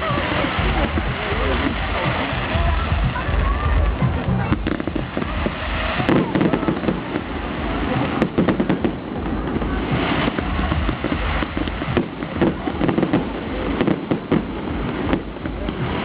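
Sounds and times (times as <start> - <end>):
fireworks bangs and crackling pops: 0.0 - 16.0.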